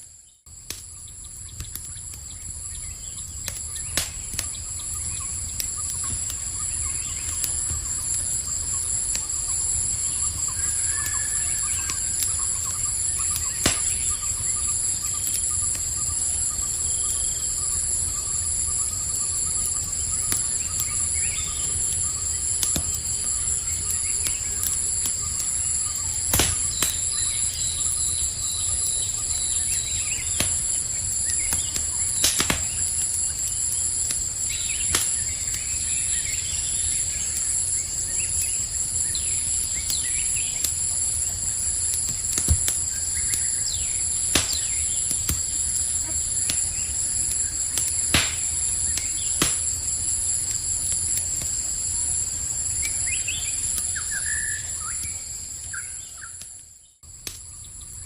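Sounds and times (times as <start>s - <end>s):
night insects chorus: 0.0s - 58.0s
campfire crackling and popping: 0.5s - 57.6s.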